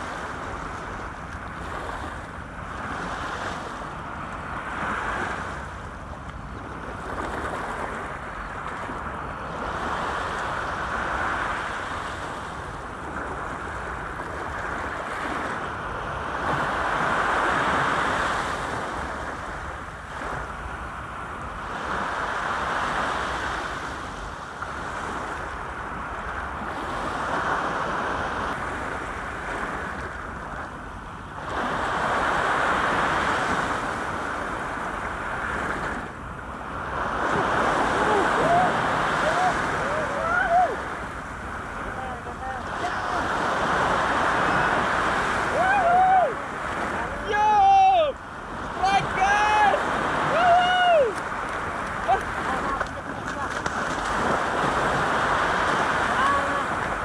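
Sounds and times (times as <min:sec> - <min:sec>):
waves washing over seawall: 0:00.0 - 0:57.0.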